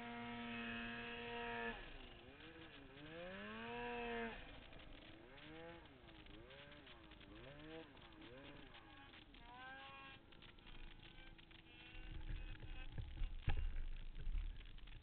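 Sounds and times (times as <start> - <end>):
snowmobile engine revving: 0.0 - 13.6
low rumble with buffeting: 0.0 - 15.0.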